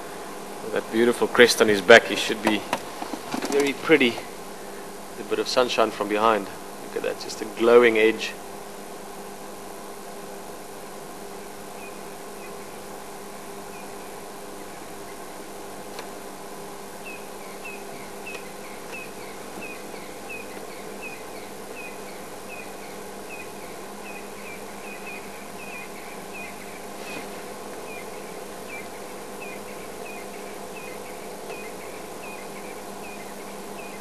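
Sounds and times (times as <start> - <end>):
steady hum and hiss: 0.0 - 34.0.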